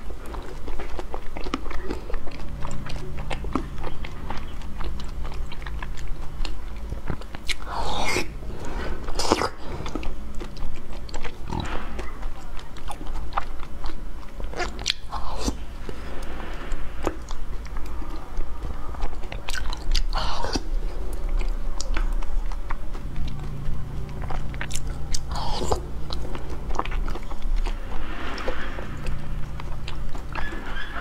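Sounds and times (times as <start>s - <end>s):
slurping: 0.0s - 31.0s
wet smacking and chewing: 0.0s - 31.0s.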